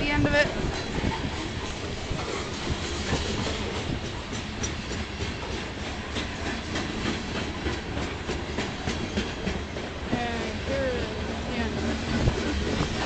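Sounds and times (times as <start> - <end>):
train cars rolling: 0.0 - 13.0
train wheels clicking over rail joints: 0.5 - 13.0.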